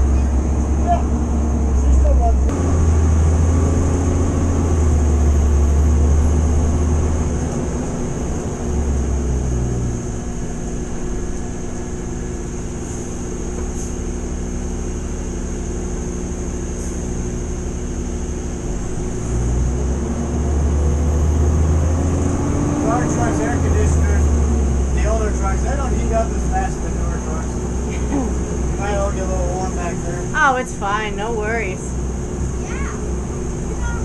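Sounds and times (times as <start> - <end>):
diesel engine drone: 0.0 - 34.0.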